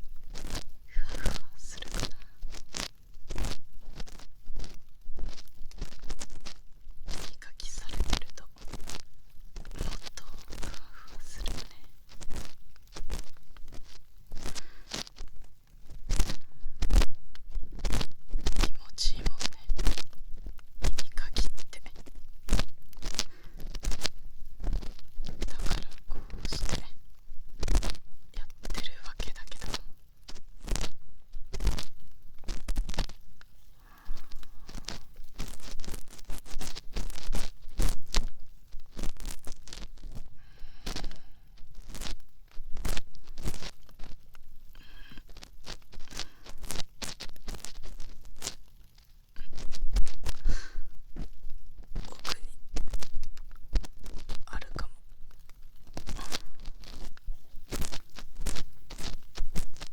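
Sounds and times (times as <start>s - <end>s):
ear pick scraping: 0.0s - 59.9s.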